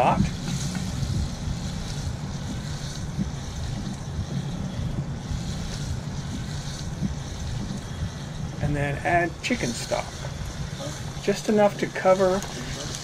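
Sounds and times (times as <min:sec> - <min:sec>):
hiss: 0:00.0 - 0:13.0
wind buffeting microphone: 0:00.0 - 0:13.0.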